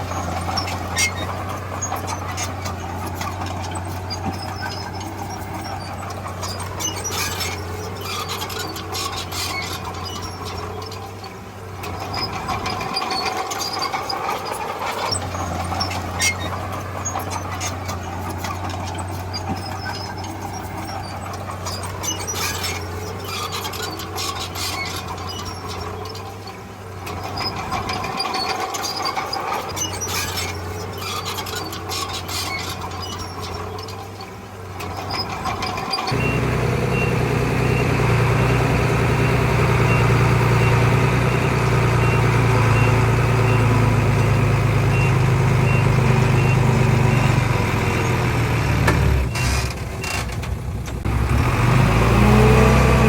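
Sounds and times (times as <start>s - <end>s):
diesel engine humming: 0.0s - 53.0s
tracks squealing and clanking: 0.0s - 53.0s.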